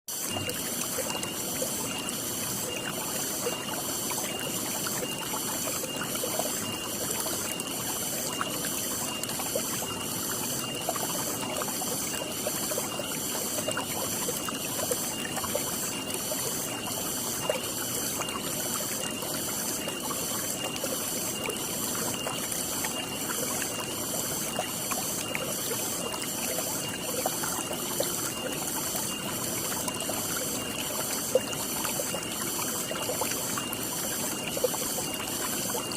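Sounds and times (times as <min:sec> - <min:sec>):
water trickling and pouring: 0:00.1 - 0:35.9.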